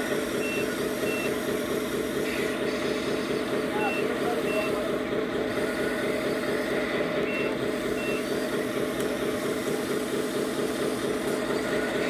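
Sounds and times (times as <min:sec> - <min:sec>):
simulated diesel engine rattle: 0:00.0 - 0:12.0.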